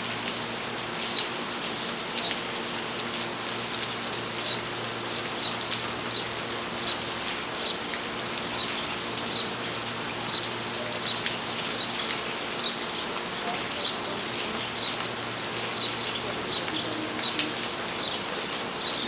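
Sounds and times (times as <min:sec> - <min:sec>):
rain pattering: 0:00.0 - 0:19.0.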